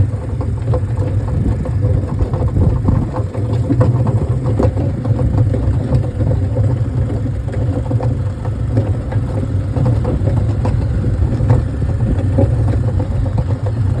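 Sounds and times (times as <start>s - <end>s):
small clicks and rattles: 0.0s - 14.0s
vehicle engine rumbling: 0.0s - 14.0s.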